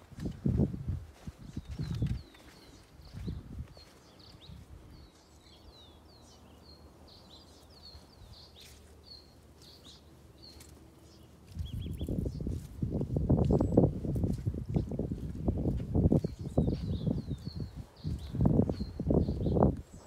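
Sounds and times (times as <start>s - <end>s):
small birds chirping: 0.2s - 20.0s.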